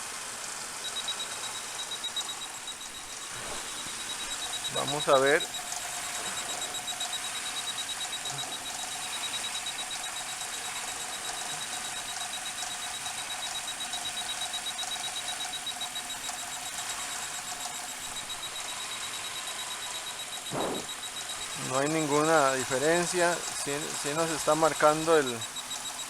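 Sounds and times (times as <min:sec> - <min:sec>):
car engine idling: 0:00.0 - 0:26.0
fuel injectors ticking: 0:00.0 - 0:26.0.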